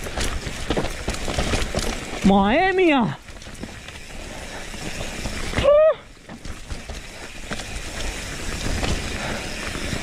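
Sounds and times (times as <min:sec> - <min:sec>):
bike rattling and knocks: 0:00.0 - 0:10.0
bike tyres rolling on trail: 0:00.0 - 0:10.0
wind: 0:00.0 - 0:10.0.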